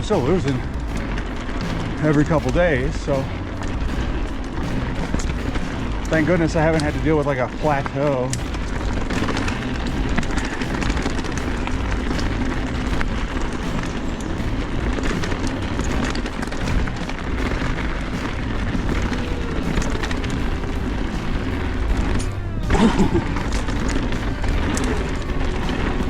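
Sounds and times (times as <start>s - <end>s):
bike rattles and ticks: 0.0s - 26.0s
tyres rolling over ground: 0.0s - 26.0s
wind rushing over microphone: 0.0s - 26.0s.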